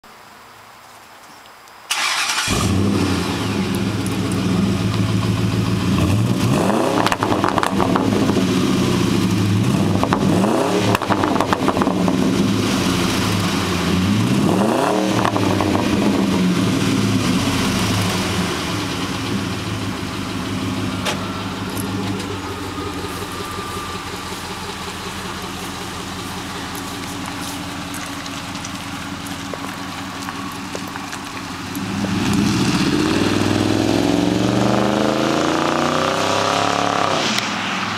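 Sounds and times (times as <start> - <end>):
car engine starting and revving: 1.9 - 37.9.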